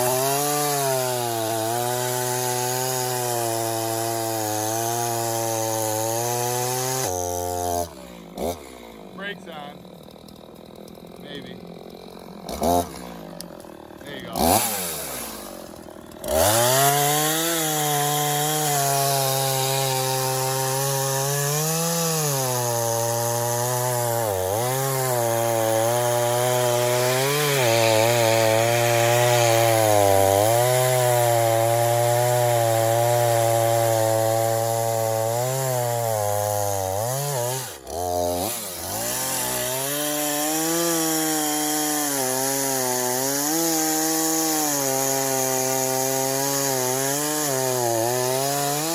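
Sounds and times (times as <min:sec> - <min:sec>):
chainsaw cutting through log: 0:00.0 - 0:48.9.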